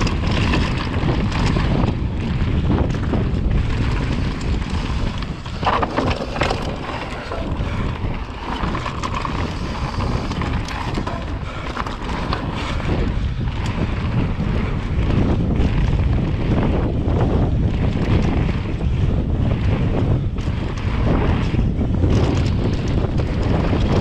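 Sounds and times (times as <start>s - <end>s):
bike rattles and knocks: 0.0s - 24.0s
bike tyres on dirt trail: 0.0s - 24.0s
wind buffeting microphone: 0.0s - 24.0s.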